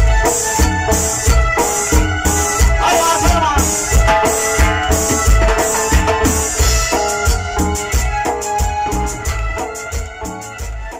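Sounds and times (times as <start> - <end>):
keyboard melody: 0.0 - 10.9
steady drum beat: 0.0 - 10.9.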